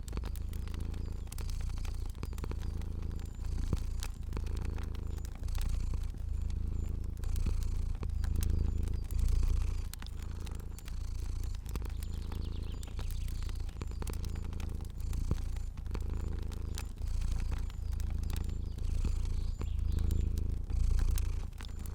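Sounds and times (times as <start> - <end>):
cat purring: 0.0 - 21.9
fire crackling: 0.0 - 21.9.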